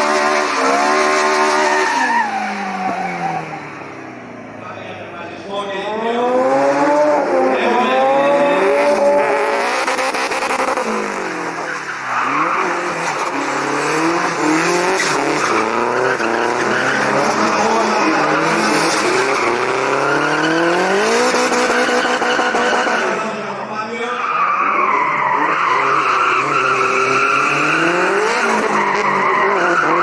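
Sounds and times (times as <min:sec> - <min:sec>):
car engine revving: 0:00.0 - 0:23.7, 0:24.5 - 0:30.0.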